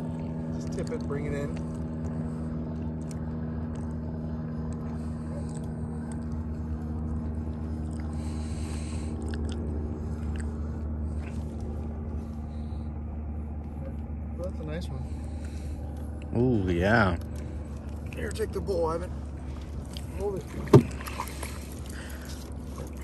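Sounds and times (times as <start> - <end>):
small boat motor humming: 0.0 - 23.0.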